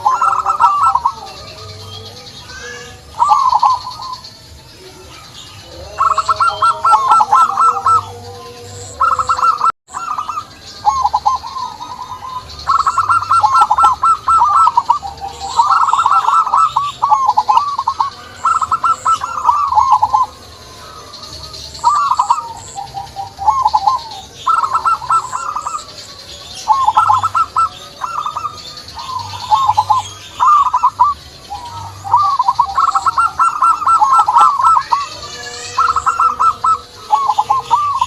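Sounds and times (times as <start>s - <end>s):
dove cooing: 0.0s - 38.0s.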